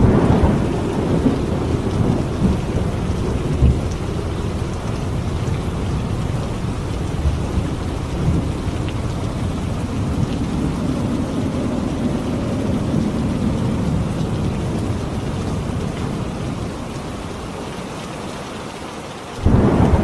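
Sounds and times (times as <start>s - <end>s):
low thunder rumble: 0.0s - 17.4s, 19.4s - 20.0s
steady rain: 0.0s - 20.0s.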